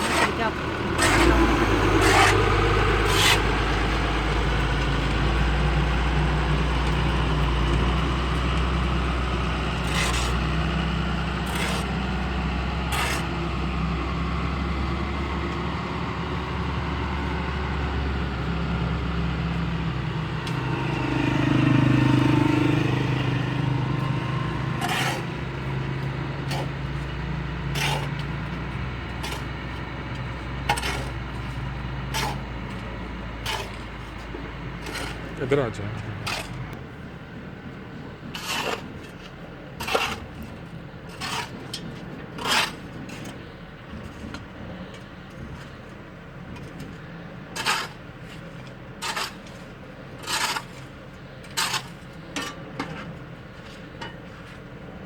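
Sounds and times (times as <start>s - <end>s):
engine running with low hum: 0.0s - 55.0s.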